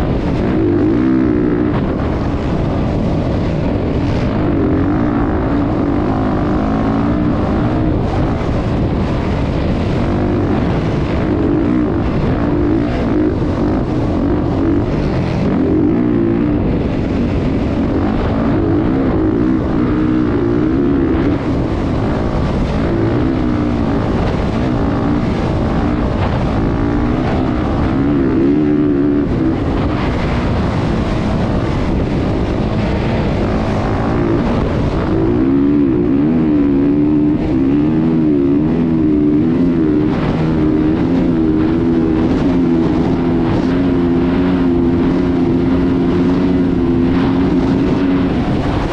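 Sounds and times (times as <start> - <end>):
dirt-bike engines revving: 0.0 - 48.9.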